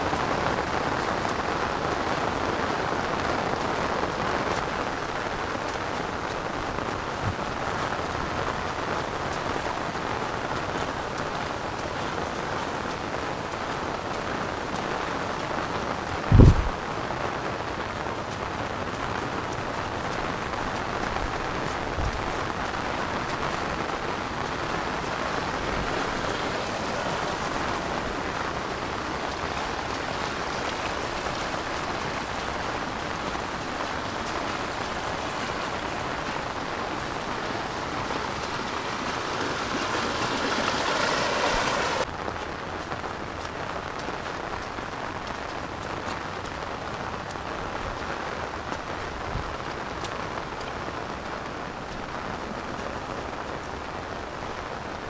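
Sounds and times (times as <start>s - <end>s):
heavy rain on vegetation: 0.0s - 55.0s.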